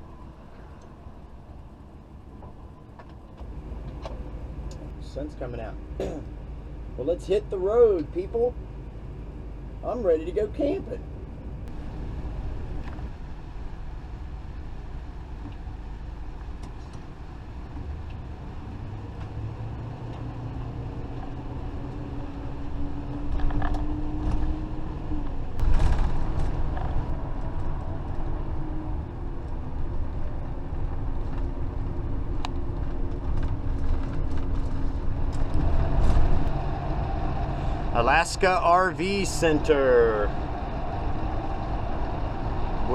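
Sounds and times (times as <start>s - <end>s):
motorhome engine: 0.0s - 42.9s
road rumble: 0.0s - 42.9s.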